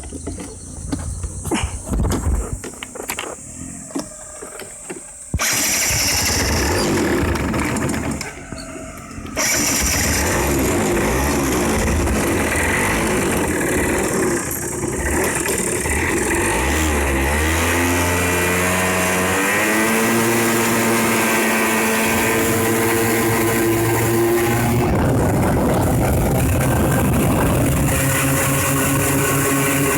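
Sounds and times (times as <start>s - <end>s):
kart engine revving: 5.3s - 29.9s.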